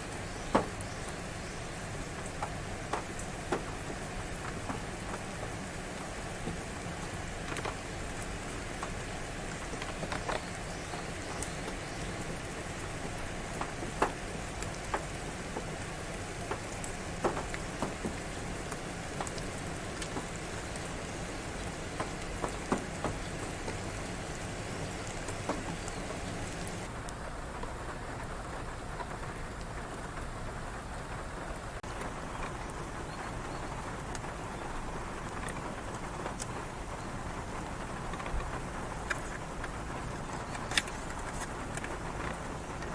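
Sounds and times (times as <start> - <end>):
rain hissing: 0.0 - 42.9
raindrops tapping near microphone: 0.0 - 42.9.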